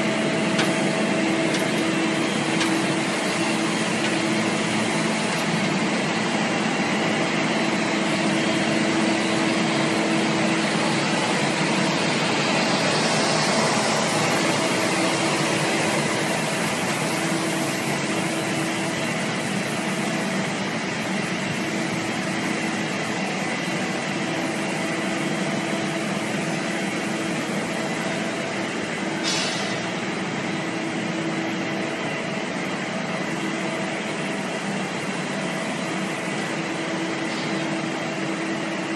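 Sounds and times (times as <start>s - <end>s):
machine drone with hum tones: 0.0s - 38.9s.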